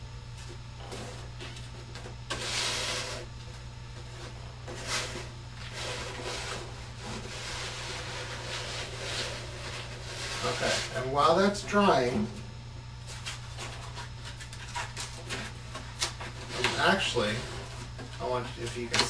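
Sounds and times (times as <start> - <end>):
steady low hum: 0.0 - 19.0
cardboard scraping on table: 0.8 - 3.3, 4.0 - 11.1, 13.1 - 18.8.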